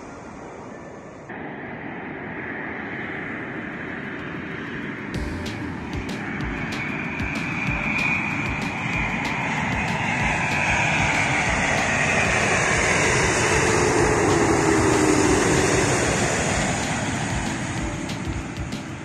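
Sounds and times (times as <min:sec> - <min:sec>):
high engine whine: 0:00.0 - 0:19.0
jet airliner flying overhead: 0:00.0 - 0:19.0.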